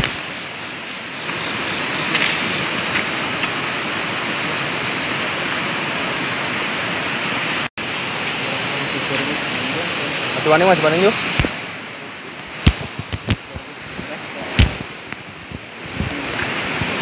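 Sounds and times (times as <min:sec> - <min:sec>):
steady rushing noise: 0:00.0 - 0:17.0
thin high whine: 0:00.0 - 0:17.0.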